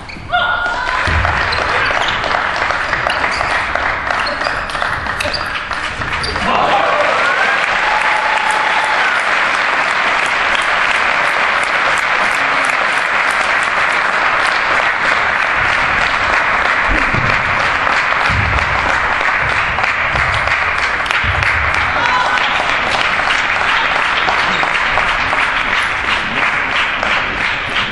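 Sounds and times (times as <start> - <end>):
audience applauding: 0.6 - 27.9.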